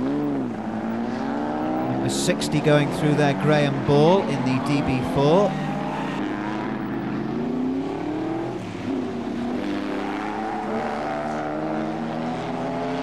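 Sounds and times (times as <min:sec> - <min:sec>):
racing cars accelerating past: 0:00.0 - 0:13.0.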